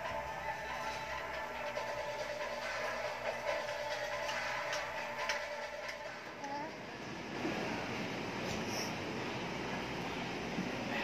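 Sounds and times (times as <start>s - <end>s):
restaurant dining room noise: 0.0s - 11.0s.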